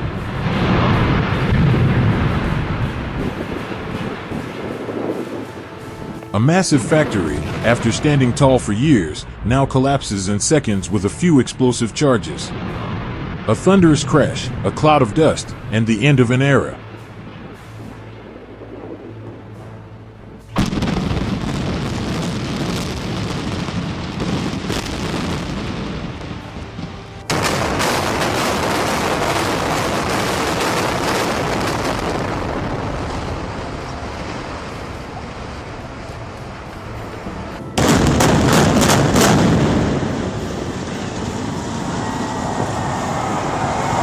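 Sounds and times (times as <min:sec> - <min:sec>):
demolition charges exploding: 0:00.0 - 0:19.3, 0:20.5 - 0:44.0
building collapsing rumble: 0:00.0 - 0:44.0.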